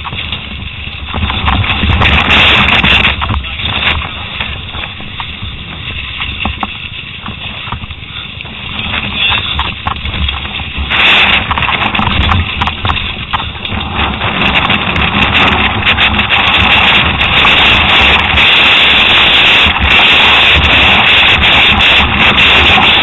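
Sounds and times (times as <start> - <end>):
bike rattling and clicking: 0.0 - 23.0
tyres skidding over loose dirt: 0.0 - 23.0
wind buffeting microphone: 0.0 - 23.0.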